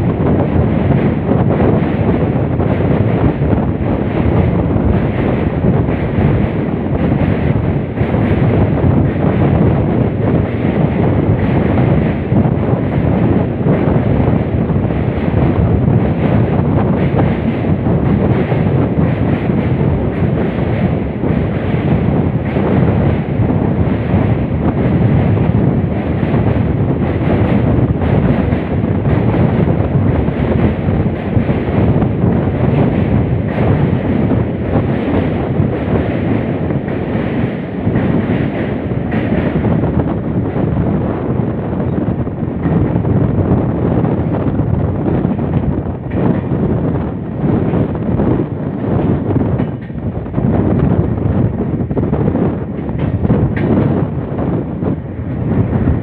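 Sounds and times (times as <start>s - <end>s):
train running rumble: 0.0s - 56.0s
wind buffeting microphone: 0.0s - 56.0s.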